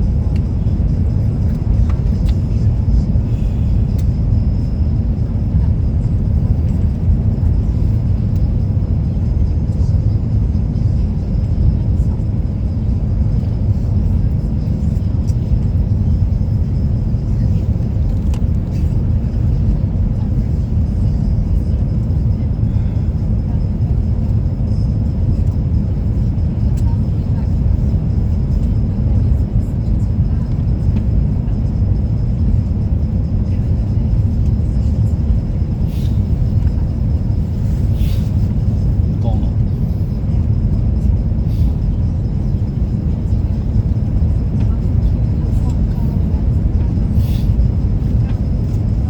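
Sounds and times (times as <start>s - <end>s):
aircraft cabin rumble: 0.0s - 49.0s.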